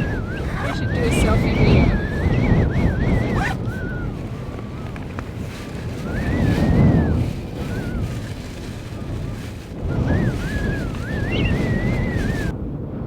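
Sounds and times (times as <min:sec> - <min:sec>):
thin wind whistle: 0:00.0 - 0:12.6
wind buffeting a car: 0:00.0 - 0:13.0.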